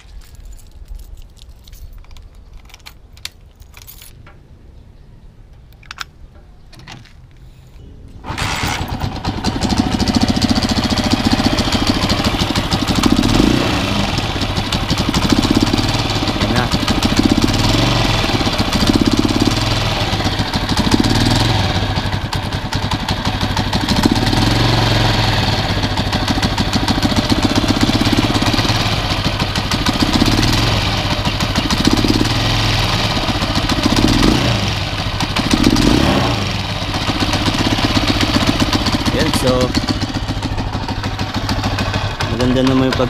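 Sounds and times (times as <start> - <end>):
motorcycle engine idling: 8.2 - 43.0.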